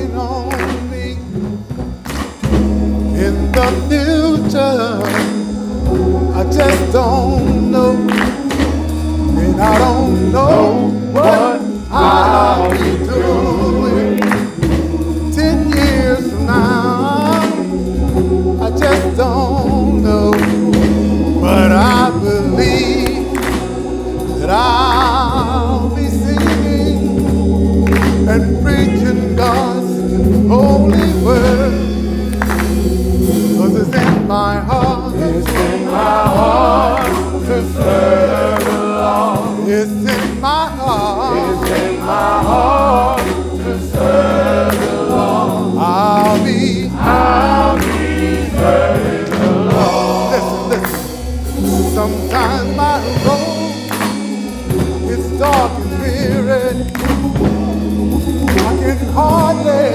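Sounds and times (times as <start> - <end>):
drum hits: 0.0 - 31.8, 32.4 - 59.9
bass line: 0.0 - 59.9
gospel singing with vibrato: 0.0 - 59.9
keyboard accompaniment: 0.0 - 59.9.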